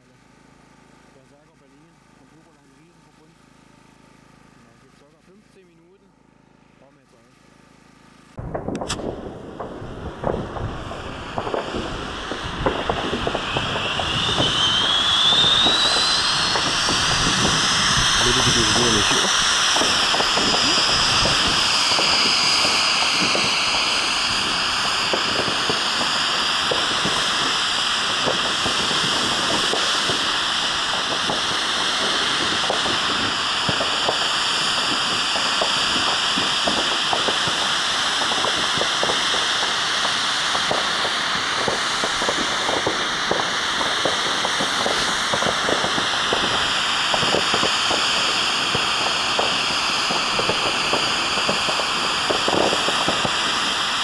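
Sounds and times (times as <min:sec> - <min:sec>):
firework hissing and crackling: 0:08.4 - 0:54.0.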